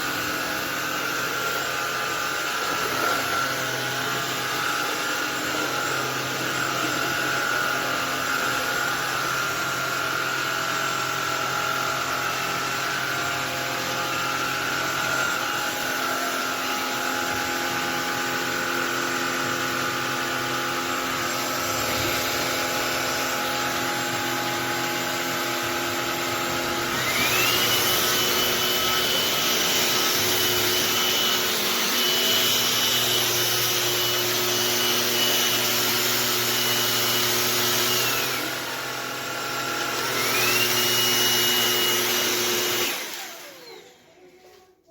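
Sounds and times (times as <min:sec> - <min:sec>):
stick vacuum cleaner running: 0:00.0 - 0:44.8.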